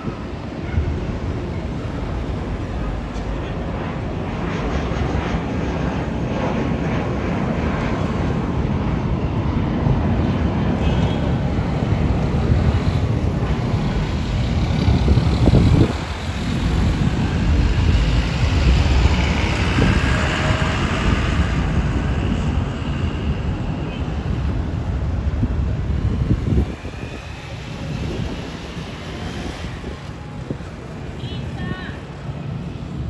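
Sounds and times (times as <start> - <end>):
faint engine whine: 0.0 - 33.0
jet airliner flying overhead: 0.0 - 33.0.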